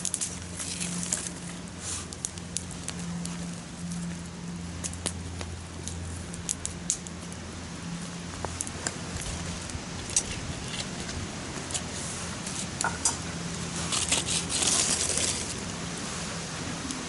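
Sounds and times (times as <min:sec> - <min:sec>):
campfire crackling and popping: 0:00.0 - 0:17.0
fire hissing: 0:00.0 - 0:17.0.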